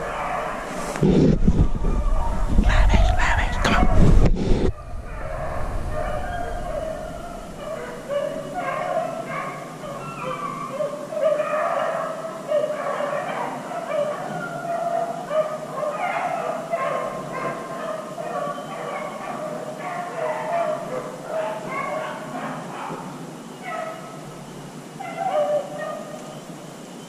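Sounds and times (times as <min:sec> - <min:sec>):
dogs baying: 0:00.0 - 0:01.0, 0:04.7 - 0:24.2, 0:25.0 - 0:26.3.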